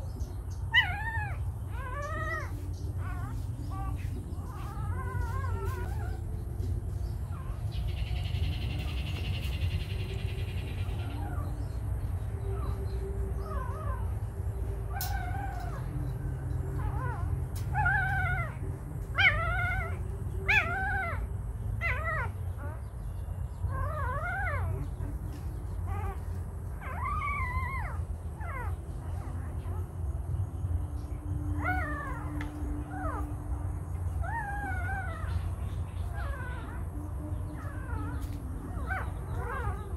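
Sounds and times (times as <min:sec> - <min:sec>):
young animal whimpering: 0:00.0 - 0:39.9.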